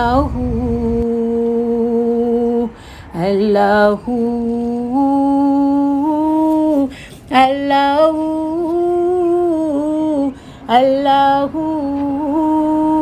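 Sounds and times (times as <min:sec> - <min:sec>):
woman singing long held notes: 0:00.0 - 0:13.0.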